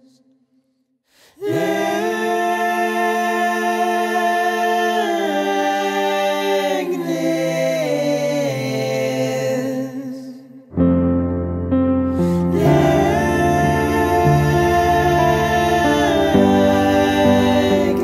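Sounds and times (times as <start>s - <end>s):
a cappella choir chords: 1.3s - 11.0s, 11.8s - 18.0s.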